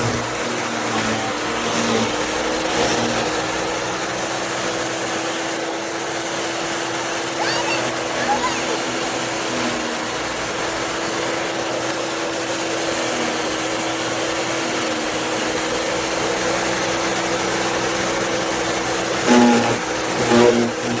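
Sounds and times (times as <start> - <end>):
wood chipper motor whining: 0.0 - 21.0.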